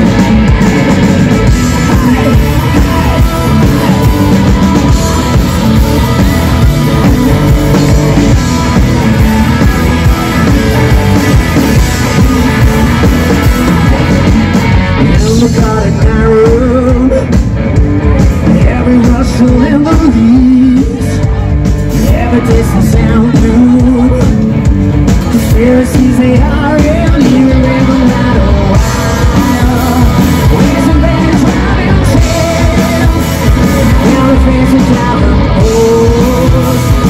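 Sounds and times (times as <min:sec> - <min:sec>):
bass guitar: 0:00.0 - 0:37.0
drum kit: 0:00.0 - 0:37.0
electric guitar: 0:00.0 - 0:37.0
person singing: 0:00.0 - 0:37.0.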